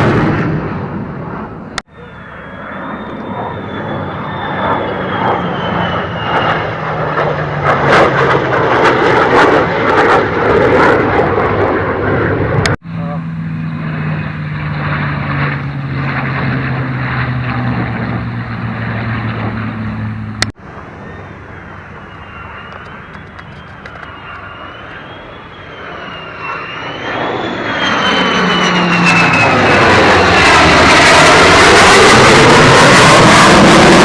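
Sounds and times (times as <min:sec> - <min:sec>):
aircraft engine drone: 0:00.0 - 0:34.0
jet aircraft rushing: 0:00.0 - 0:34.0.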